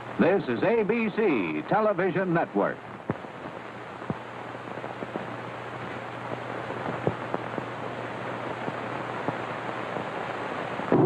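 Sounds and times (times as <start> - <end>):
crackles and pops: 0.0 - 11.0
low steady hum: 0.0 - 11.0
steady hiss: 0.0 - 11.0.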